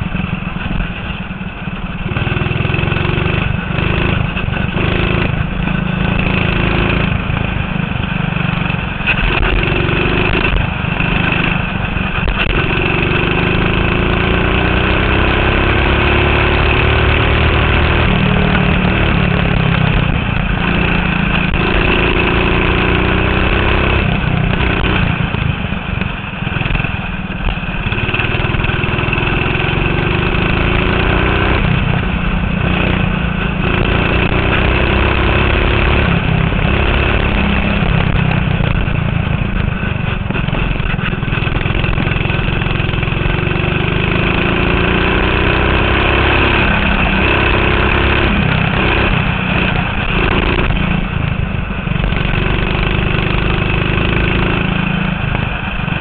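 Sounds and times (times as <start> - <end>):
go-kart engine accelerating: 0.0 - 56.0.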